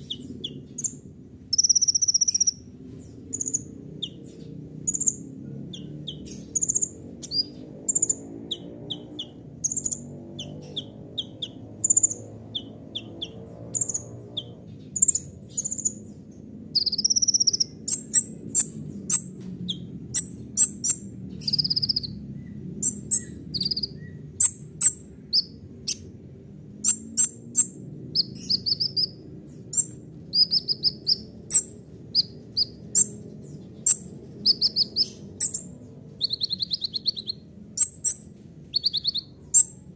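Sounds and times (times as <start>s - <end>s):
bird singing chirps and trills: 0.0s - 39.9s
steady low hum: 0.0s - 39.9s.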